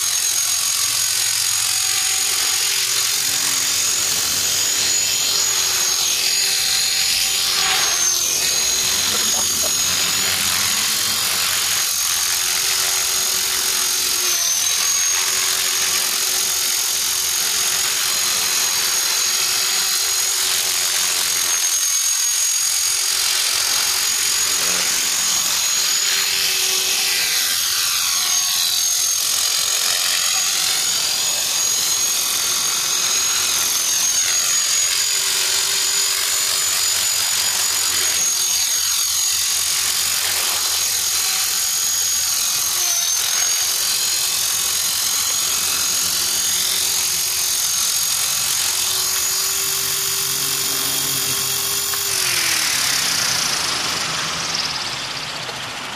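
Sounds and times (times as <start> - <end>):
rc helicopter motor whine: 0.0 - 55.9
rotor blades rushing: 0.0 - 55.9.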